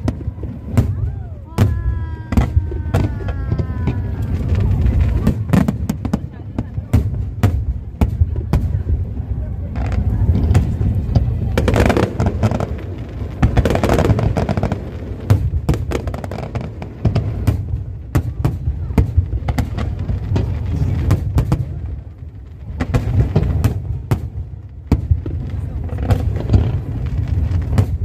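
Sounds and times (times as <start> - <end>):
firework bangs and crackles: 0.0 - 28.0.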